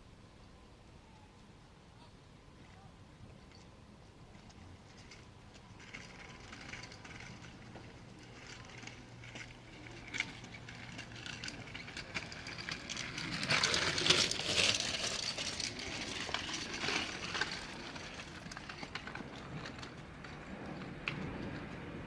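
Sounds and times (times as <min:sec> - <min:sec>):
scooter wheels rattling over pavement: 0:04.3 - 0:22.0.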